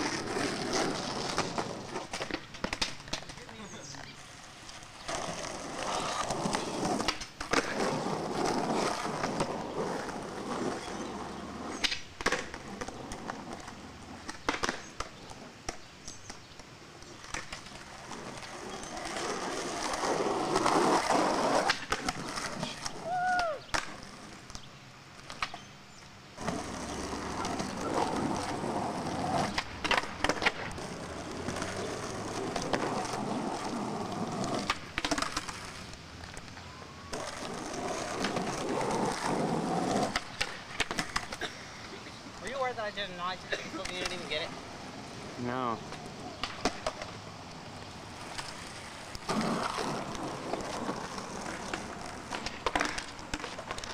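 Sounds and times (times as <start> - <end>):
skateboard clacking on ground: 0.0 - 25.7, 26.4 - 53.9
skateboard wheels rolling on concrete: 0.0 - 53.9.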